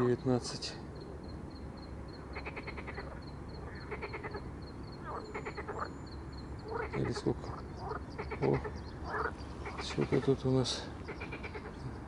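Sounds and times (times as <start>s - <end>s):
frogs croaking rattling calls: 0.0s - 12.0s.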